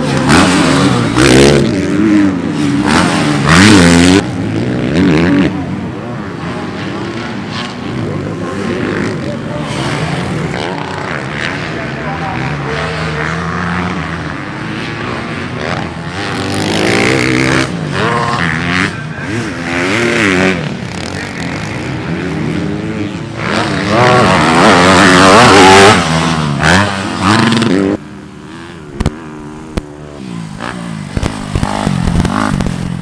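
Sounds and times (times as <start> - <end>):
dirt bike engines revving: 0.0 - 33.0.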